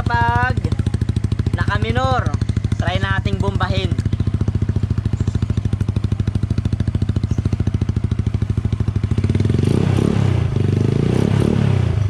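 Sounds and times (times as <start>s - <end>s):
scooter engine idling and revving: 0.0s - 12.0s.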